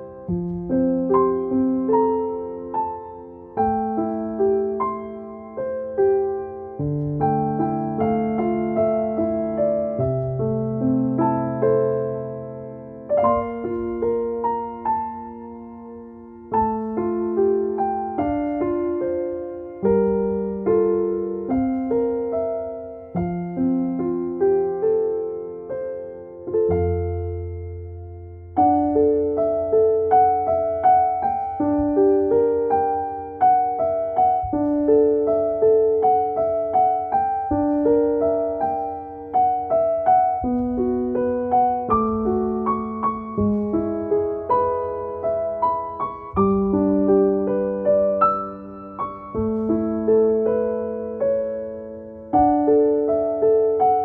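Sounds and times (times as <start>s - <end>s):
calm piano music: 0.0s - 54.0s.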